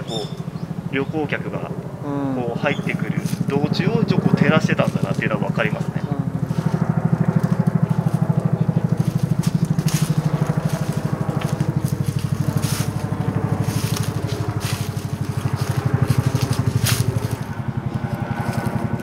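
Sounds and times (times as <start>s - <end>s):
low pulsing hum: 0.0s - 19.0s
footsteps crunching on dry leaves: 2.9s - 19.0s.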